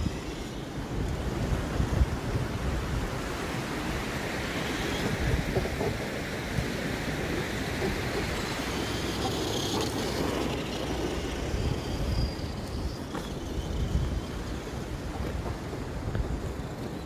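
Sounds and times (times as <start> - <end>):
toy truck tyres rumbling: 0.0 - 17.0.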